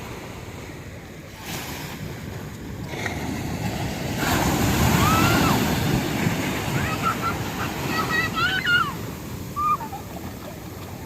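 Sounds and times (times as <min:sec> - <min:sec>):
wave breaking on shore: 0:00.0 - 0:11.0
wind buffeting microphone: 0:01.8 - 0:11.0.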